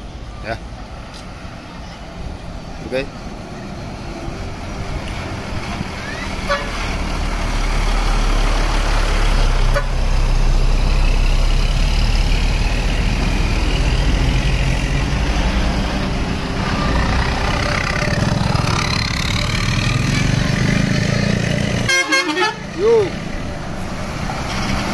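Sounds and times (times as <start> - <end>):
buses driving past: 0.0 - 24.9.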